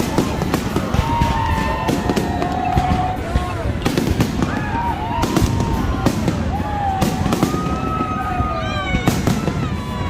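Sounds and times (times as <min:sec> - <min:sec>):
fireworks bangs: 0:00.0 - 0:10.0
wavering firework whistles: 0:00.0 - 0:10.0.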